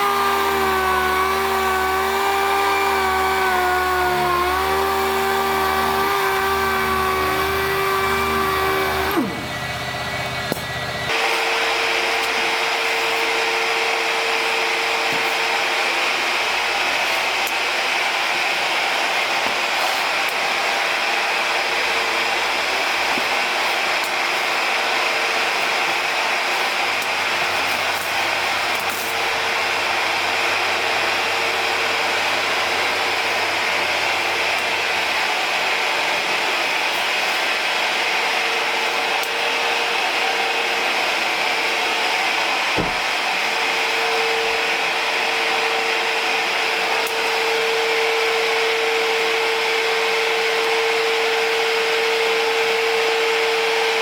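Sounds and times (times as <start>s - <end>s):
sander whirring hiss: 0.0s - 54.0s.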